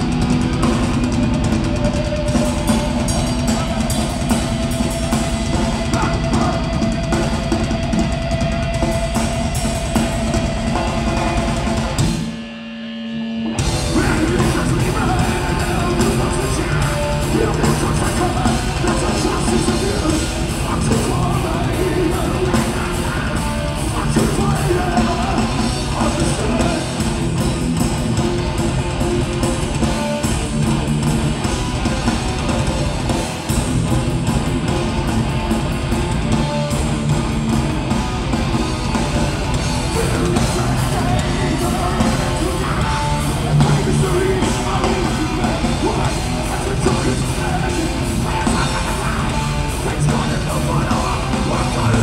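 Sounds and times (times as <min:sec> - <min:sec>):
metal band playing live: 0:00.0 - 0:52.0.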